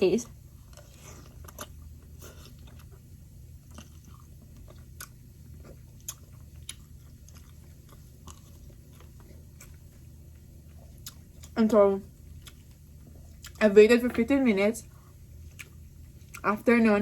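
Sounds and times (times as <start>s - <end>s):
steady low hum: 0.0s - 17.0s
person chewing crunchy food: 0.5s - 13.6s, 14.8s - 16.5s.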